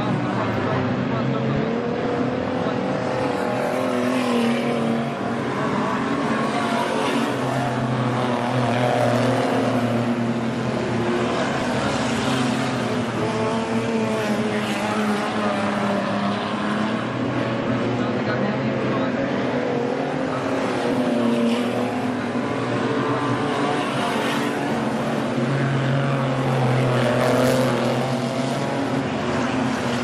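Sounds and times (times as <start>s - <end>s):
race car engines at low revs: 0.0s - 30.0s.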